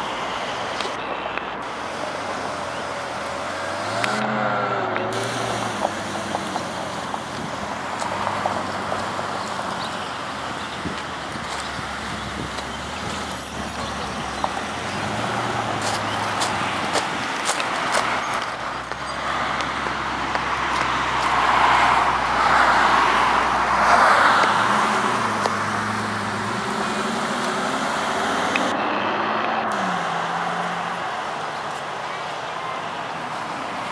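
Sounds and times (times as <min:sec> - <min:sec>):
cars driving by: 0:00.0 - 0:33.9
tyre noise: 0:00.8 - 0:30.1.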